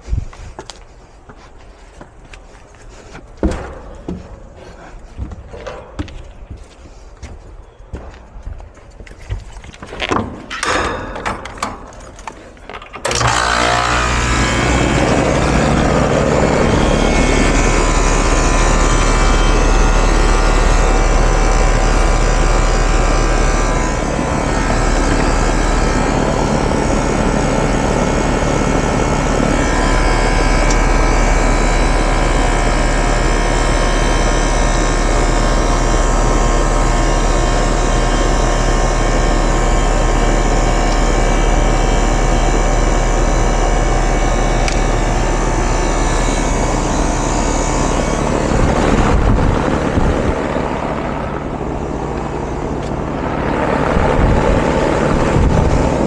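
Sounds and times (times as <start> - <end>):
condenser fan rushing: 9.7 - 56.0
air conditioner compressor humming: 9.8 - 56.0.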